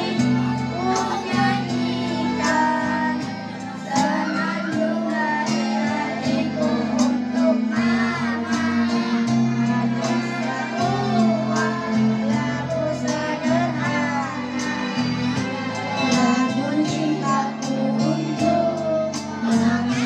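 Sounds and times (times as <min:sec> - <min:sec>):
children singing: 0:00.0 - 0:20.0.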